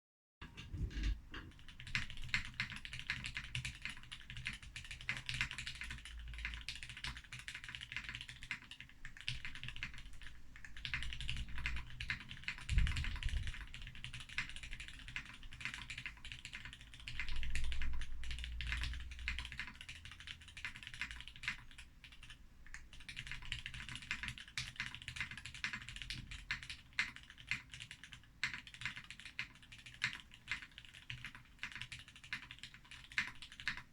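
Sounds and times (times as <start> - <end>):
fast typing on mechanical keyboard: 1.4 - 33.9.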